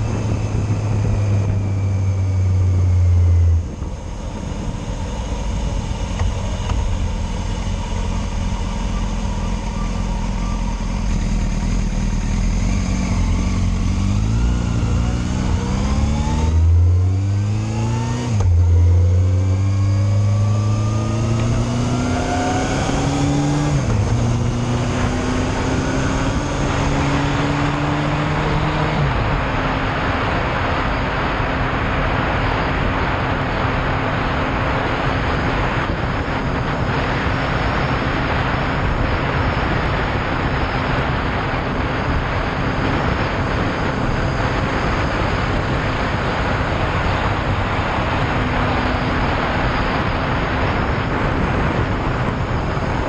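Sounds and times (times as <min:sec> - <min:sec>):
motorcycle engine cruising: 0:00.0 - 0:53.0
wind rush: 0:00.0 - 0:53.0.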